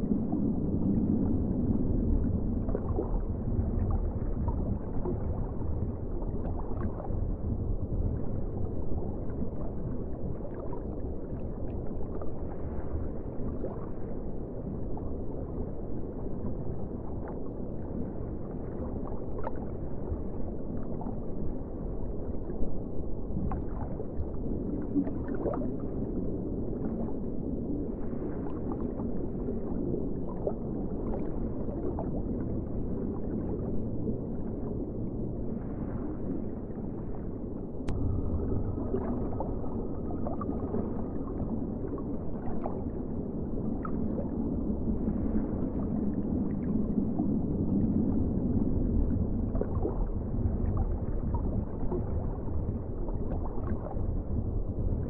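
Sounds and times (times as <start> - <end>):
faint gurgles: 0.0 - 55.0
underwater rumble of moving water: 0.0 - 55.0.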